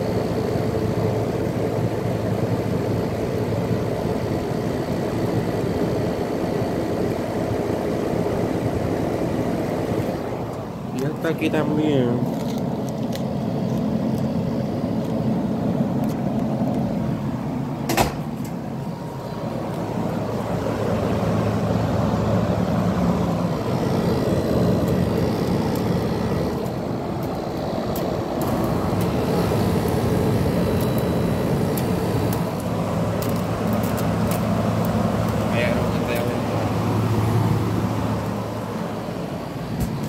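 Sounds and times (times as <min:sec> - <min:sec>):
air conditioner humming: 0:00.0 - 0:40.0.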